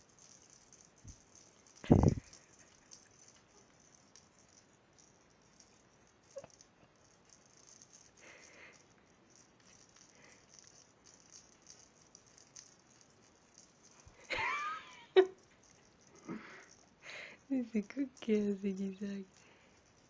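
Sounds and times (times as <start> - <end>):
small bell jingling: 0.0 - 20.0.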